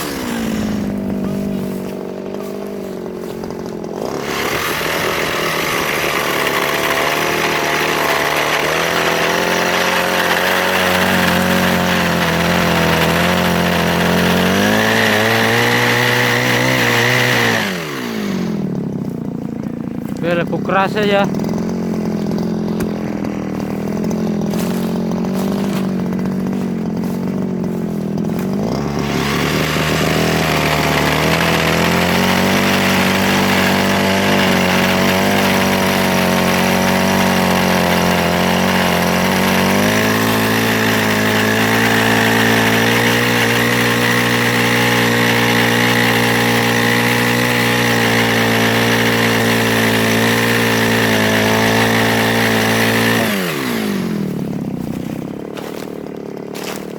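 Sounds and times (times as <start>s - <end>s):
mini chainsaw idling and revving: 0.0s - 56.9s.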